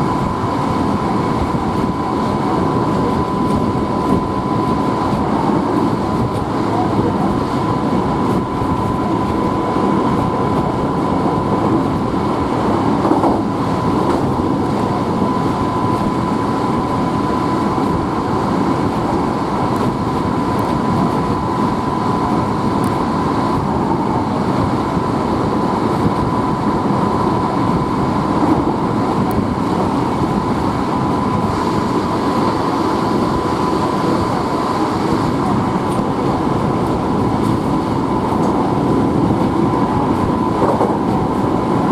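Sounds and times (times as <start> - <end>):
train wheels rumbling on track: 0.0 - 41.9.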